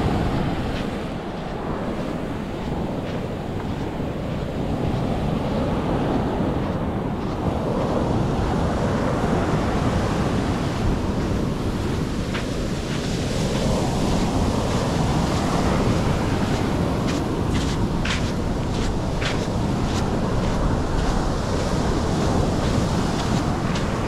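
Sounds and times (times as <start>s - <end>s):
surf washing onto beach: 0.0s - 24.0s
wind buffeting microphone: 0.0s - 24.0s.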